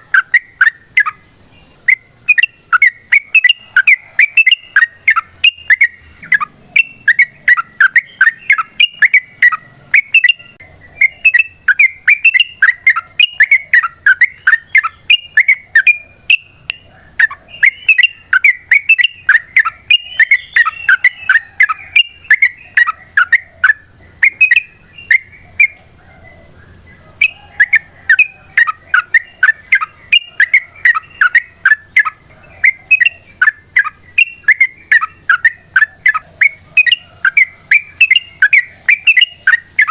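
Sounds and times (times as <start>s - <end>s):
bird singing bubbling chirps: 0.0s - 39.9s.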